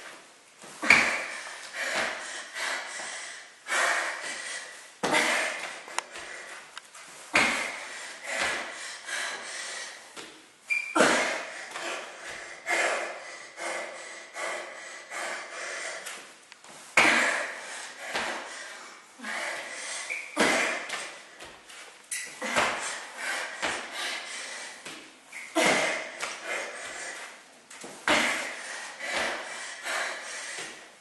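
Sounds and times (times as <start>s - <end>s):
woman breathing hard: 0.8s - 16.3s, 16.9s - 31.0s.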